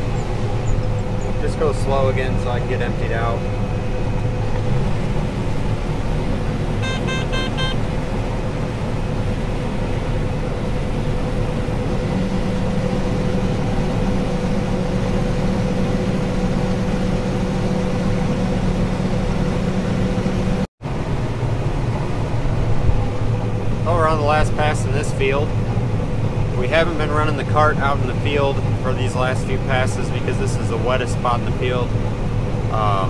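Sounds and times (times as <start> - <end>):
combine harvester running: 0.0 - 33.0
deep unloading hum: 0.0 - 33.0.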